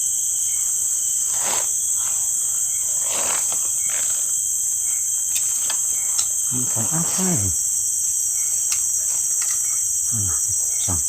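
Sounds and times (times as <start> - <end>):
insect chorus droning: 0.0 - 11.0.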